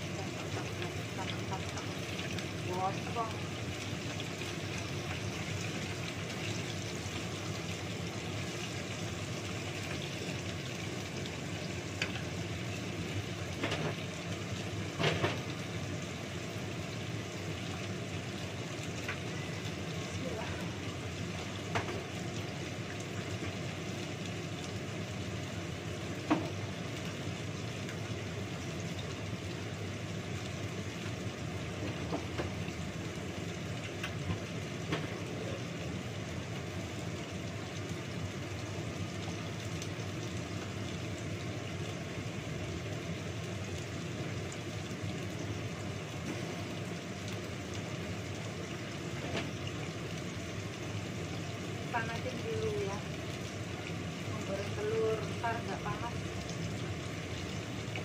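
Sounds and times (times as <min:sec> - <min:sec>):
range hood fan humming: 0:00.0 - 0:58.0.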